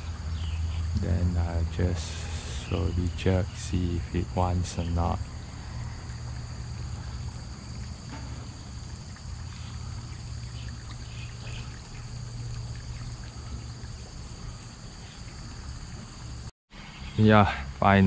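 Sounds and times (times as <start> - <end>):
steady low hum: 0.0 - 16.5
water trickling: 0.0 - 16.5.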